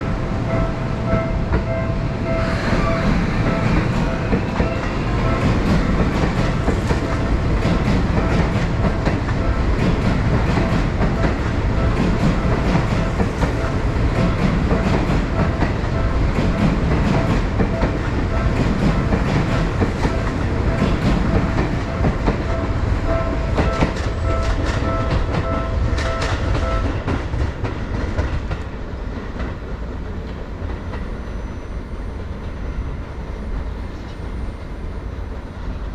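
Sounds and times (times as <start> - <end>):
train running rumble: 0.0 - 35.9.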